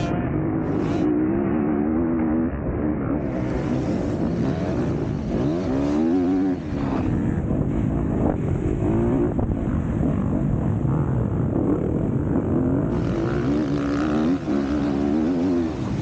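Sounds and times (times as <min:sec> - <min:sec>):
motocross bike engine revving: 0:00.0 - 0:16.0
steady rushing noise: 0:00.0 - 0:16.0.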